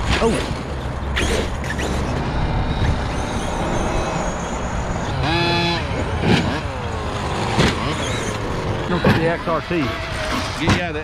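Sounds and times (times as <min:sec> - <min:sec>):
toy truck motors whining: 0:00.2 - 0:11.0.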